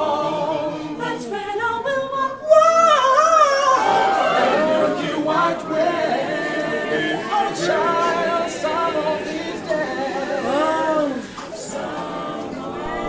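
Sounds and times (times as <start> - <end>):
group singing gospel unaccompanied: 0.0 - 13.0.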